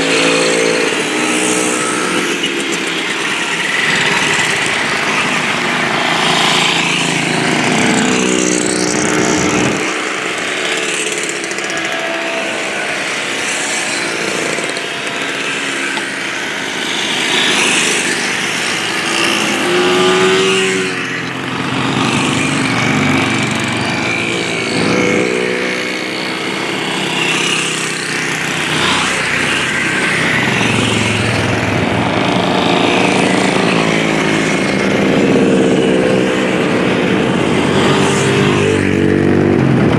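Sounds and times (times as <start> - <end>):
motorcycles riding past: 0.0 - 39.9.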